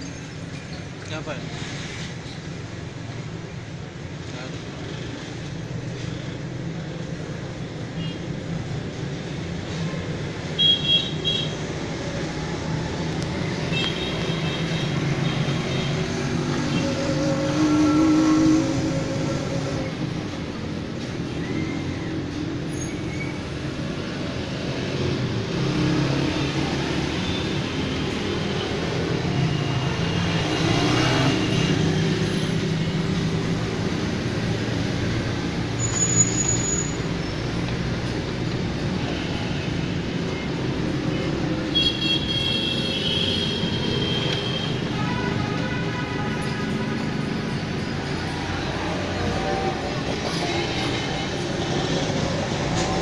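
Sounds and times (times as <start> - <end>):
road traffic din: 0.0 - 53.0.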